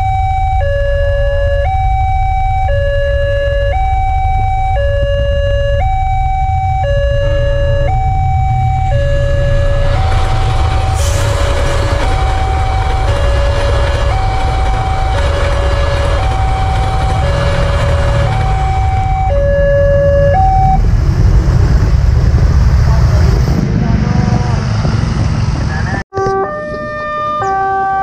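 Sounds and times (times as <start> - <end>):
two-tone level crossing siren: 0.0 - 20.9, 26.1 - 28.0
passing train rumble: 0.0 - 28.0.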